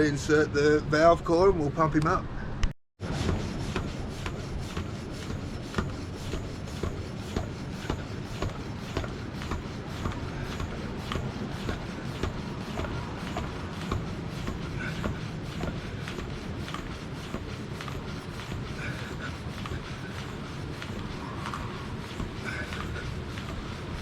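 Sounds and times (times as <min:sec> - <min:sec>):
bicycle pump strokes: 0:03.0 - 0:24.0.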